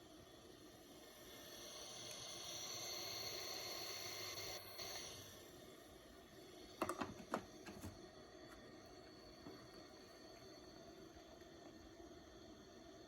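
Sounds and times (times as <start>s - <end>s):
humidifier hissing: 0.0s - 13.0s.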